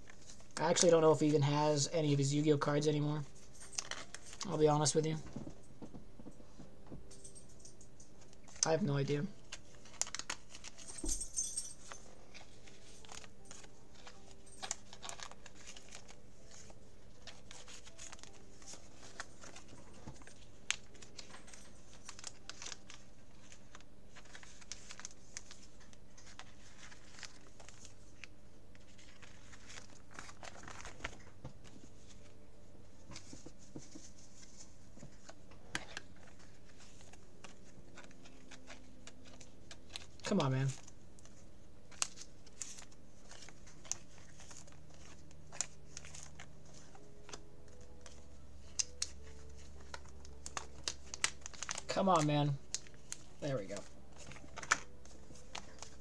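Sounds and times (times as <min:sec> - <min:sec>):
plastic sleeves crinkling: 0:00.0 - 0:06.0, 0:08.1 - 0:56.0.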